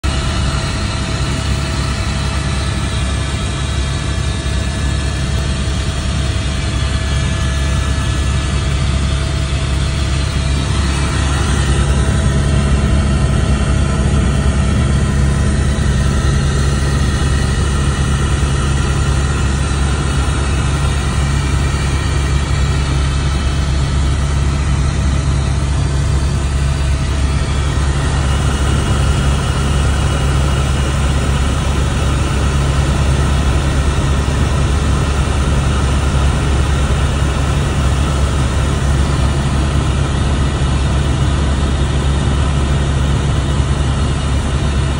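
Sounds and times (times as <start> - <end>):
helicopter rotor and engine drone: 0.0 - 44.9.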